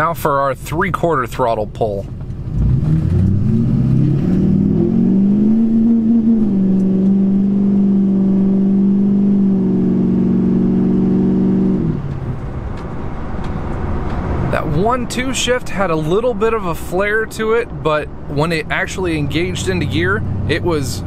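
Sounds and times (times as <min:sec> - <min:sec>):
diesel truck engine accelerating: 0:00.0 - 0:21.0.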